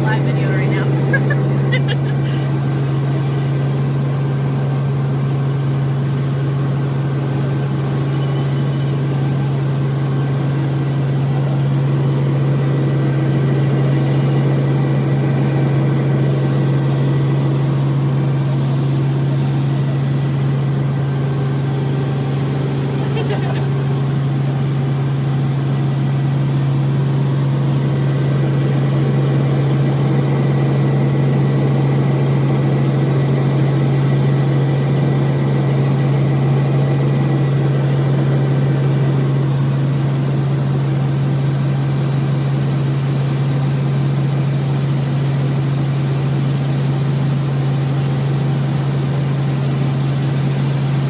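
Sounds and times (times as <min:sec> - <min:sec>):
helicopter drone from inside cabin: 0:00.0 - 0:51.0.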